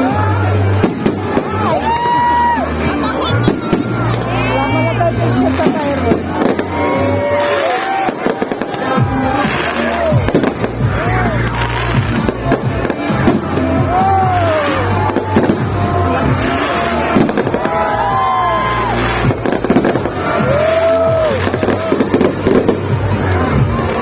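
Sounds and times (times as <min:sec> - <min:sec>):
crowd: 0:00.0 - 0:24.0
fireworks bursting and crackling: 0:00.0 - 0:24.0
music playing: 0:00.0 - 0:24.0.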